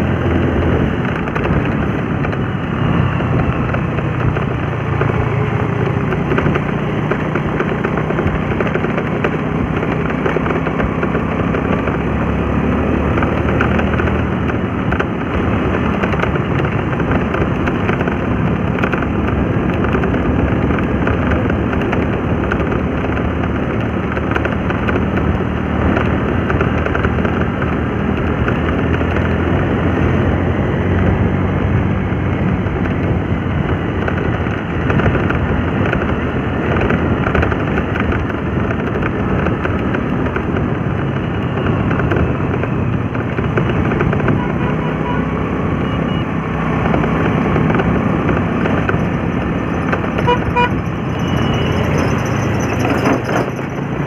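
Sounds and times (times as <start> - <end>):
motorbike engine hum: 0.0 - 54.0
road and wind noise: 0.0 - 54.0.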